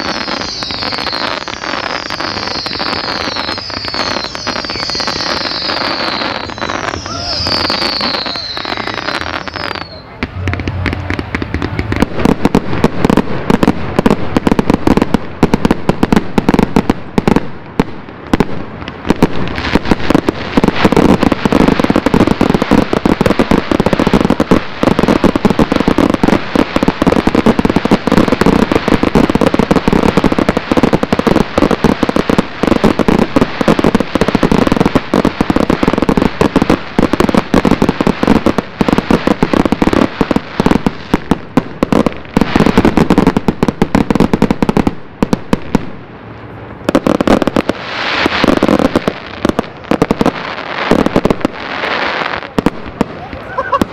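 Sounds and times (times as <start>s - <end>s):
fireworks bursts and bangs: 0.0s - 53.9s.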